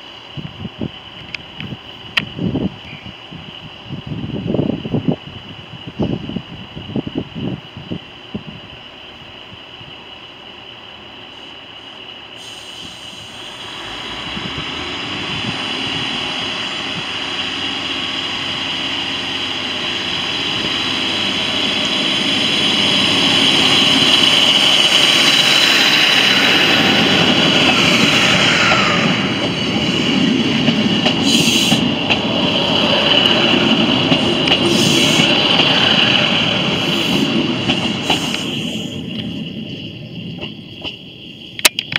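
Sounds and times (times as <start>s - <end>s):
diesel train passing: 0.0s - 41.9s.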